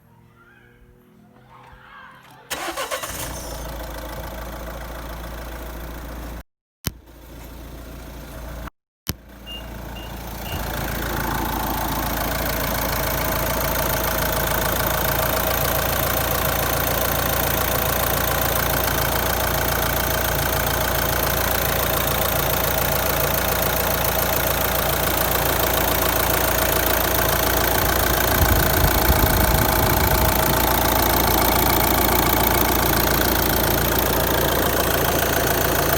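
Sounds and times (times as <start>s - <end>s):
diesel engine running: 2.5s - 6.4s, 7.1s - 35.9s.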